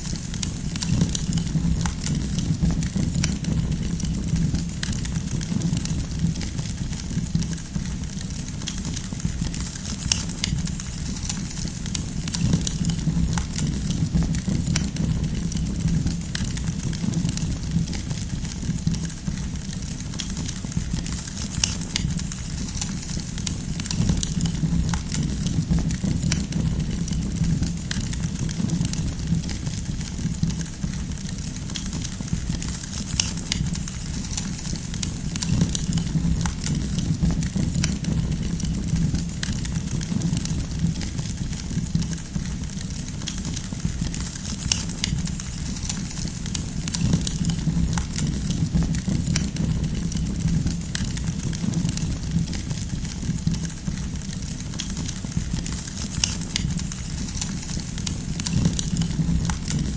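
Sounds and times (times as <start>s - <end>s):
firewood crackling and popping: 0.0s - 59.9s
low rumble of flame: 0.0s - 59.9s.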